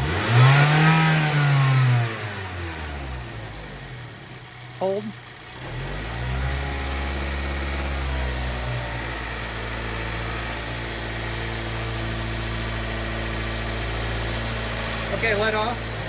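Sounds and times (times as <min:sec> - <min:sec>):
car engine running steadily: 0:00.0 - 0:16.0.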